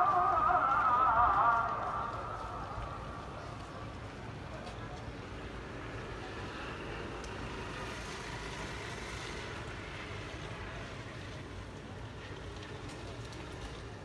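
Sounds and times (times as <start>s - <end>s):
distant traffic: 0.0s - 14.0s.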